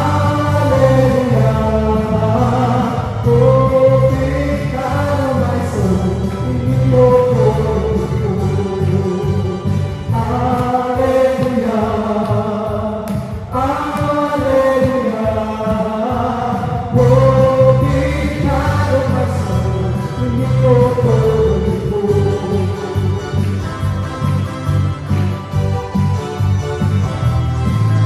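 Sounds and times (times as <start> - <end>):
backing vocalists singing: 0.0 - 23.5
lead singer singing: 0.0 - 23.7
bass guitar: 0.0 - 28.0
keyboard: 0.0 - 28.0.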